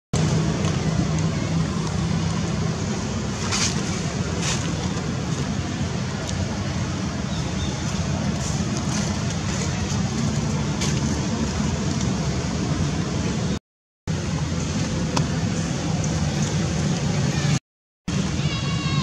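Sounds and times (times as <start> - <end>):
steady rushing background noise: 0.2 - 19.0.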